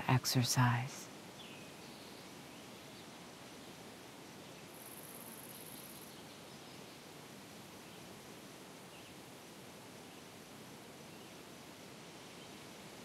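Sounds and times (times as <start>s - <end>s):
soft steady hiss: 0.0s - 13.0s.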